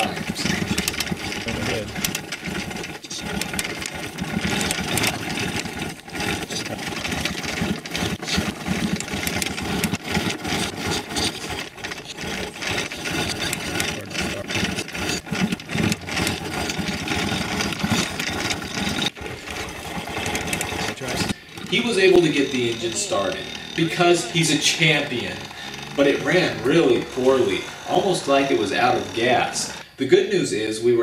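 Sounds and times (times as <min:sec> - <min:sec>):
two-stroke engine cranking: 0:00.0 - 0:31.0.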